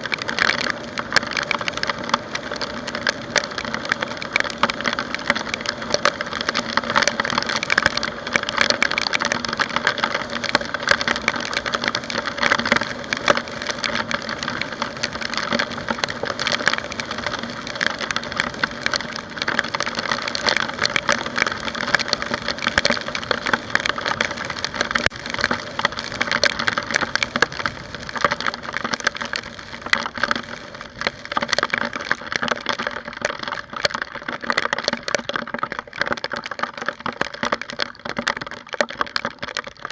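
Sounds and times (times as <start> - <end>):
raindrops striking camera housing: 0.0 - 39.9.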